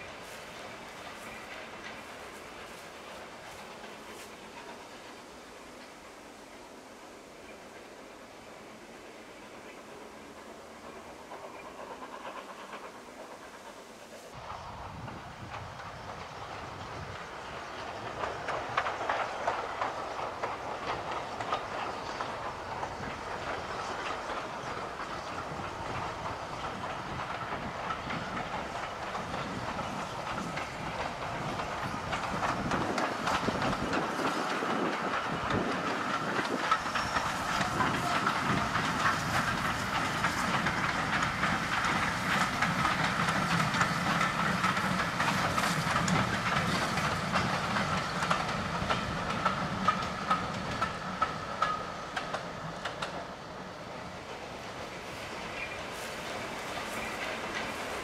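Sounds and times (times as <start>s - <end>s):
train wheels clicking over rail joints: 0.0s - 6.7s, 7.4s - 58.0s
steam hiss: 0.0s - 58.0s.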